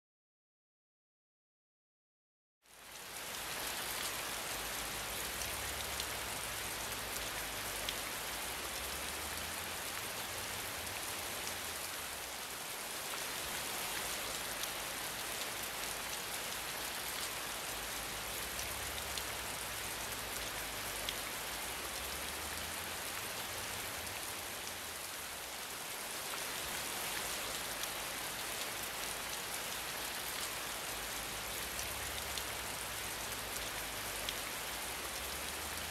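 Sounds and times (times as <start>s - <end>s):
steady rain falling: 2.6s - 35.9s.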